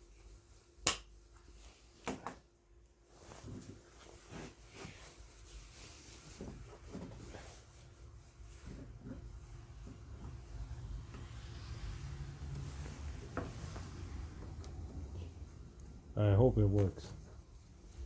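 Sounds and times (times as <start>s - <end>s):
faint knocking and rustling: 1.4s - 18.0s.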